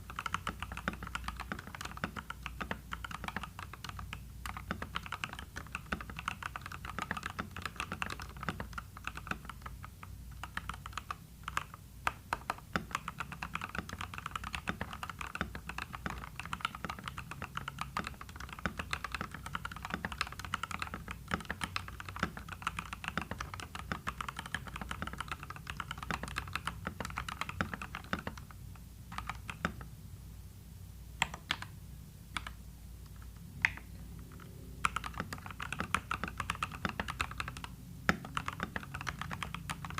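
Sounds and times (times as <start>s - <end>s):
typing on mechanical keyboard: 0.0s - 29.8s, 33.6s - 39.9s.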